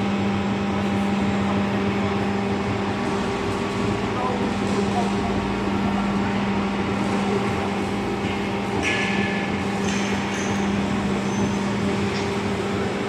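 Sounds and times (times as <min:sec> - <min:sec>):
bending machine humming: 0:00.0 - 0:13.0.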